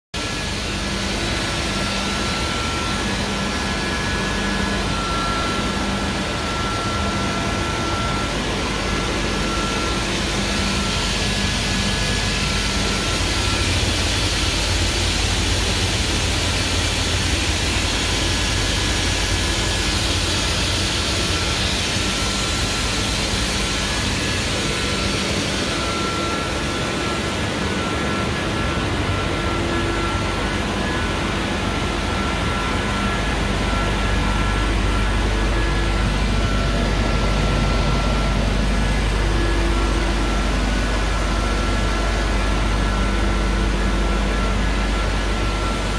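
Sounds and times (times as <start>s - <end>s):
industrial machinery drone: 0.1s - 45.9s
low machine hum: 0.2s - 45.9s
thin steady whine: 0.2s - 45.9s.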